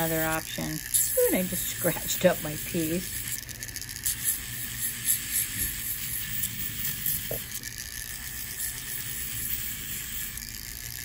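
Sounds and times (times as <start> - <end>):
sanding disc hissing on metal: 0.0 - 3.4, 4.0 - 7.5, 8.2 - 10.5.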